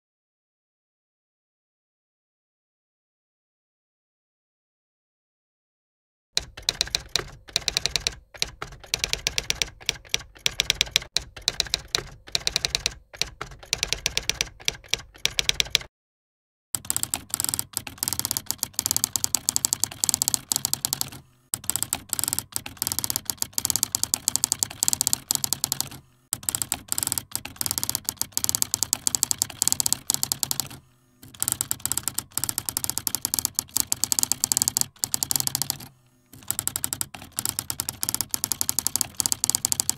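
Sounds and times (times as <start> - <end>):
keyboard typing clicks: 6.4 - 15.9, 16.8 - 39.9.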